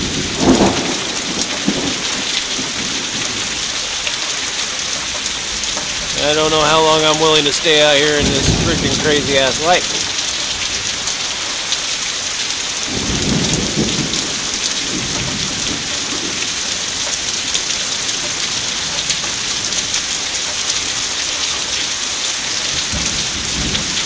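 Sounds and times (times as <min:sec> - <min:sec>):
thunder rumbling: 0:00.0 - 0:21.2, 0:22.5 - 0:24.0
rain hissing: 0:00.0 - 0:24.0.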